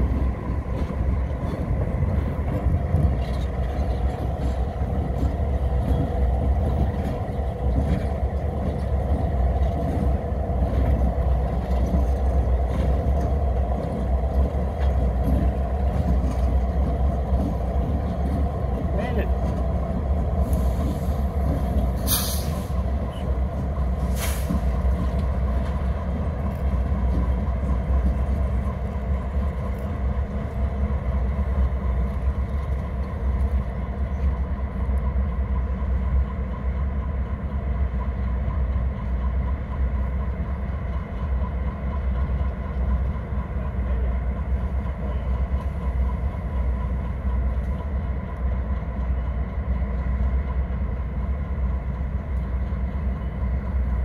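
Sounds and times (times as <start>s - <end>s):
diesel locomotives rumbling: 0.0s - 54.0s.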